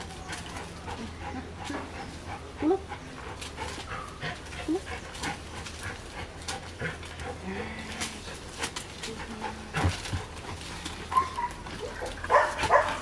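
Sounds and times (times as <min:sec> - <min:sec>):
dog breathing hard: 0:00.4 - 0:11.1.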